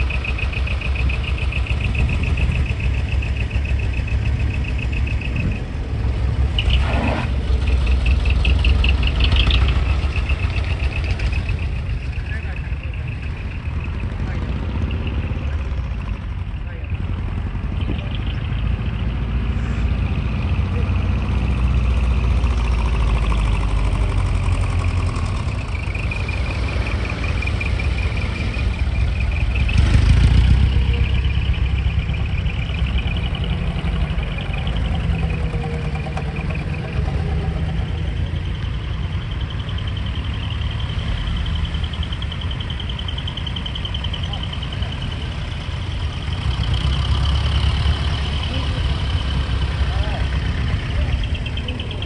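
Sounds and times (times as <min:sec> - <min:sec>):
truck engines rumbling: 0:00.0 - 0:52.0.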